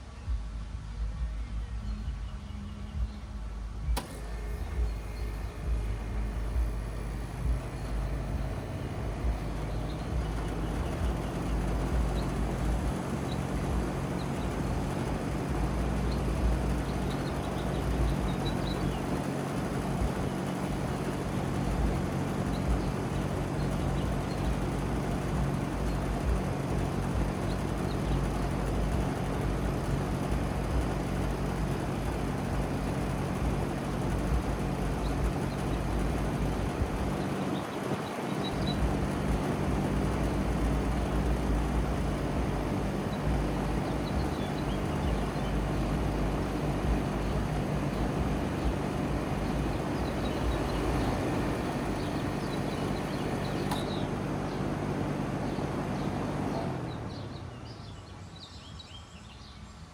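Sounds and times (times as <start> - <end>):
air conditioner compressor hum: 0.4 - 56.9
condenser fan rushing: 2.7 - 58.0.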